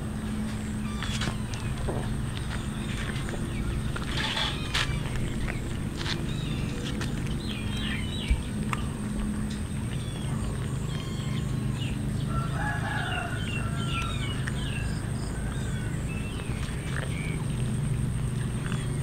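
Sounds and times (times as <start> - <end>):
birds chirping: 0.0 - 19.0
low hum: 0.0 - 19.0.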